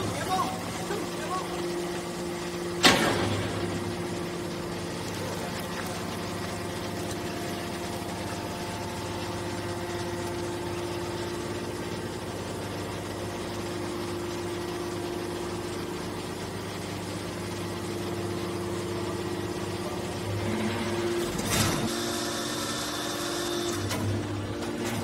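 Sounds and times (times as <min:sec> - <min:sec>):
hydraulic pump motor humming: 0:00.0 - 0:25.0.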